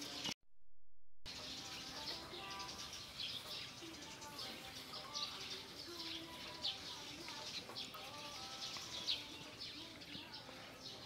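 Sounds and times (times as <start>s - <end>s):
small birds chirping: 1.3s - 11.0s.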